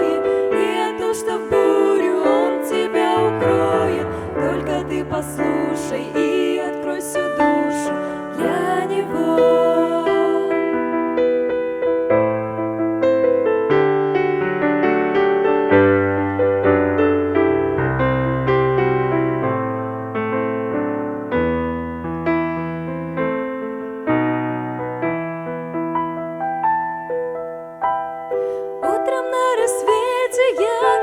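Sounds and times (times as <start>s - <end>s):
gentle piano playing: 0.0s - 31.0s.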